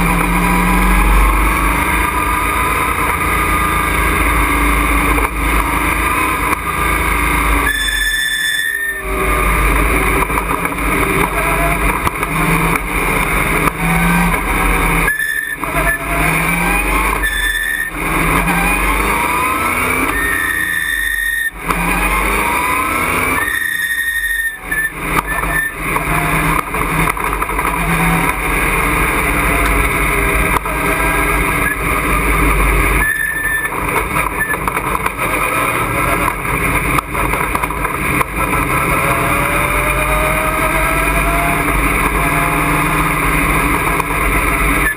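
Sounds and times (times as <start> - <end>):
truck engine accelerating: 0.0 - 44.9.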